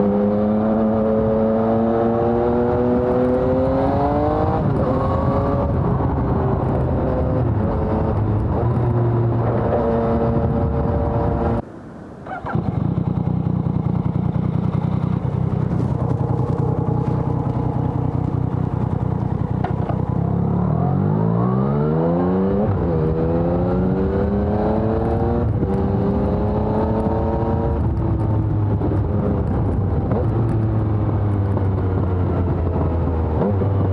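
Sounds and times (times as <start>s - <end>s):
motorcycle engine revving through gears: 0.0s - 11.6s, 12.3s - 33.9s.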